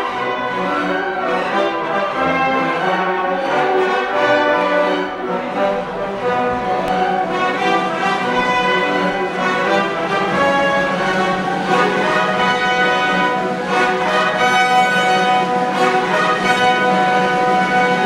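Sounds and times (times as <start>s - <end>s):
orchestral music with held notes: 0.0s - 18.0s.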